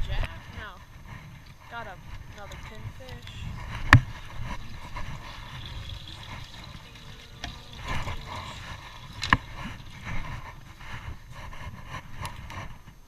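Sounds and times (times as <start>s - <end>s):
low wind: 0.0s - 13.0s
water noise: 2.0s - 12.8s.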